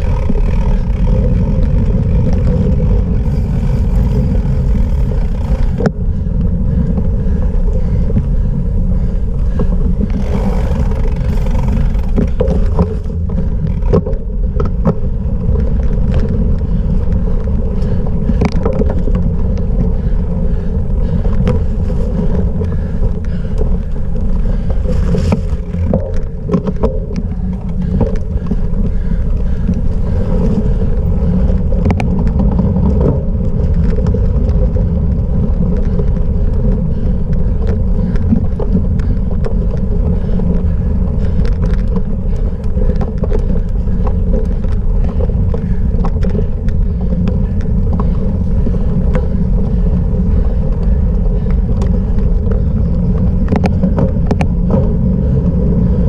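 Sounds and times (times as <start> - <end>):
bike knocks and rattles: 0.0 - 56.0
wind rumble on microphone: 0.0 - 56.0.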